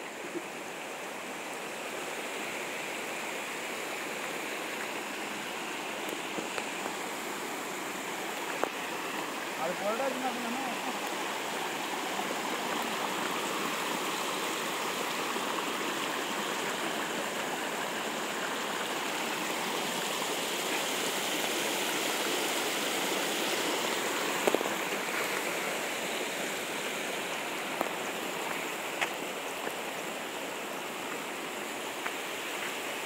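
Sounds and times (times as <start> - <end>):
stream flowing over rocks: 0.0 - 33.0.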